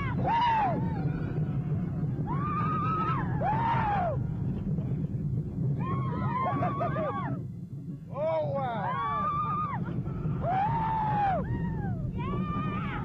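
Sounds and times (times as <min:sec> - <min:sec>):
riders screaming and whooping: 0:00.0 - 0:04.8, 0:05.6 - 0:07.4, 0:08.6 - 0:13.0
roller coaster rumbling on track: 0:00.0 - 0:13.0.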